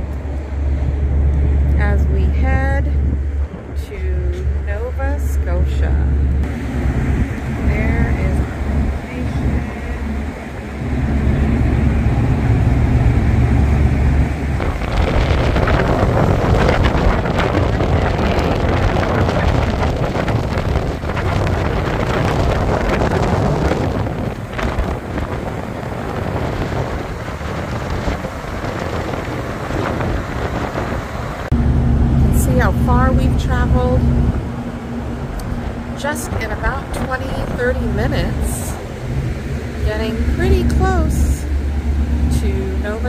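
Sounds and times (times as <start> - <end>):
ferry engines droning: 0.0 - 43.0
wind gusting on microphone: 0.0 - 43.0.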